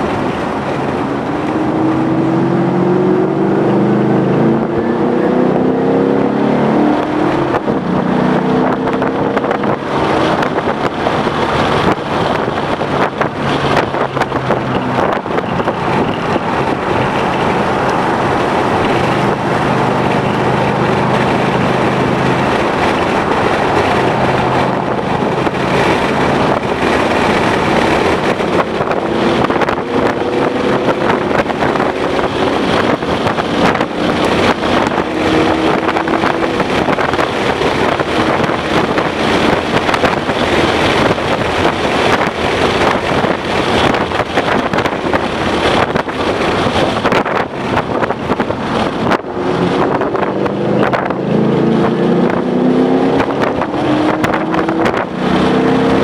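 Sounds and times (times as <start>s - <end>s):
car engine running hard: 0.0s - 56.0s
wind and road noise: 0.0s - 56.0s.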